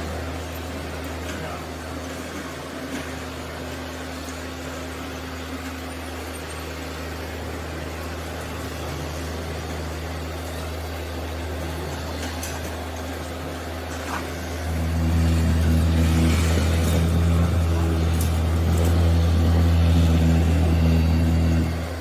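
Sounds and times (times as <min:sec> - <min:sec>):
construction machinery engine hum: 0:00.0 - 0:22.0.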